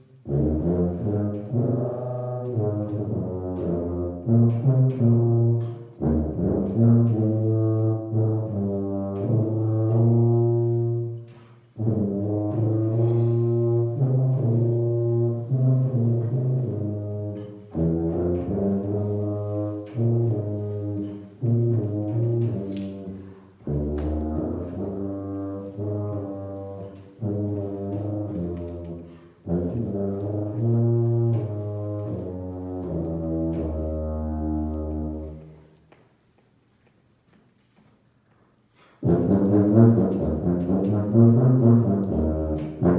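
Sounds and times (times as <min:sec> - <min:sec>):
solo tuba playing low notes: 0:00.0 - 0:35.8, 0:38.8 - 0:42.9.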